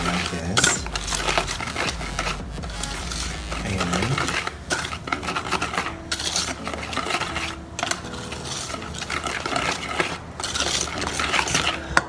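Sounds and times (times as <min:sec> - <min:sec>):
utensil scraping in mixing bowl: 0:00.0 - 0:12.0.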